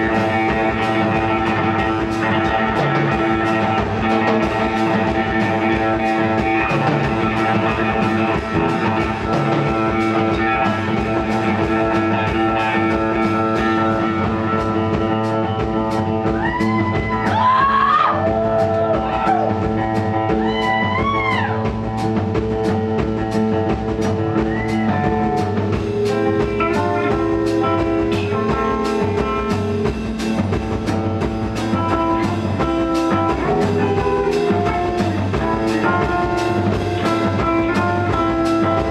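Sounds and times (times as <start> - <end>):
bass guitar: 0.0 - 38.9
drum kit beat: 0.0 - 38.9
electric guitar: 0.0 - 38.9.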